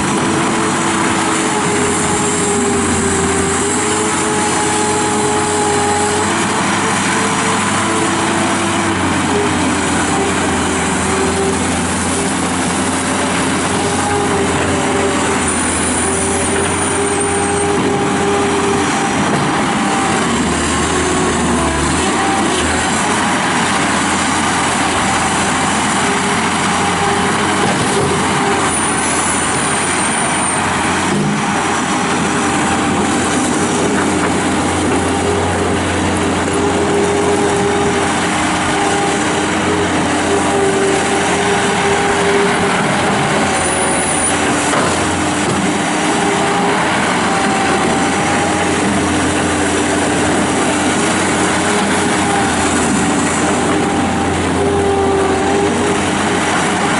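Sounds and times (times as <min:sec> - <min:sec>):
loader engine drone: 0:00.0 - 0:56.9.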